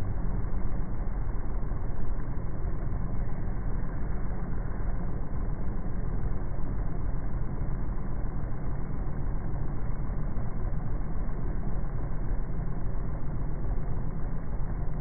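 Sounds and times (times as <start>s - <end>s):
low outdoor ambient rumble: 0.0s - 15.0s.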